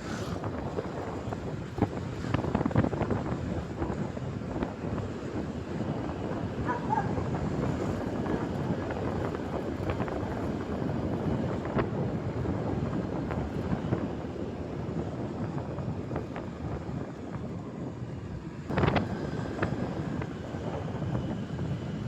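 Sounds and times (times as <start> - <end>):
road and engine noise: 0.0 - 22.0
wind buffeting microphone: 0.0 - 22.0.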